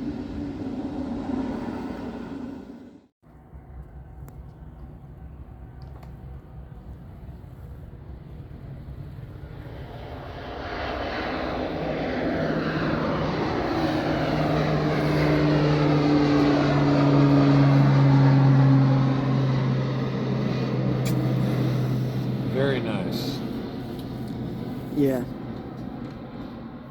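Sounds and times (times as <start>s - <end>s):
propeller plane droning past: 0.0s - 26.9s.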